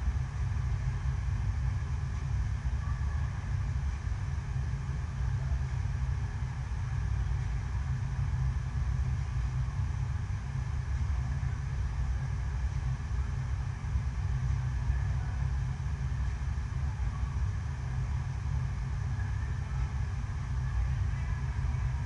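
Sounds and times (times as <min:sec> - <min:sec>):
pump low rumble: 0:00.0 - 0:22.0.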